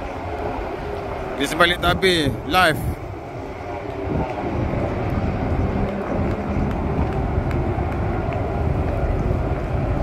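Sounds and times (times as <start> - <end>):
helicopter flying overhead: 0.0 - 10.0.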